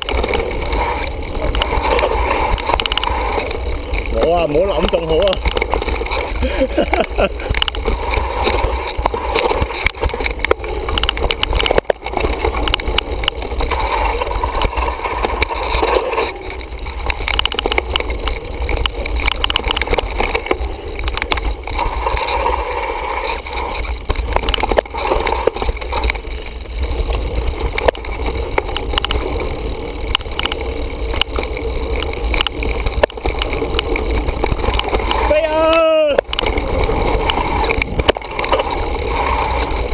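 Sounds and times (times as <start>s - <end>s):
bike clattering over bumps: 0.0s - 39.9s
tyres on dirt and leaves: 0.0s - 39.9s
wind rumble on microphone: 0.0s - 39.9s.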